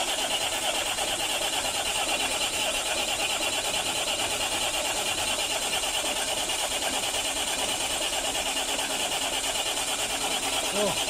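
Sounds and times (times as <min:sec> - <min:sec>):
engine running with rapid pulse: 0:00.0 - 0:11.0.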